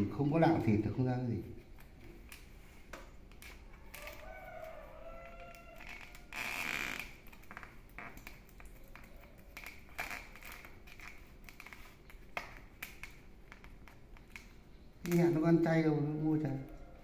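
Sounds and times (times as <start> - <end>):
leaf wrapping rustling: 0.0 - 17.0.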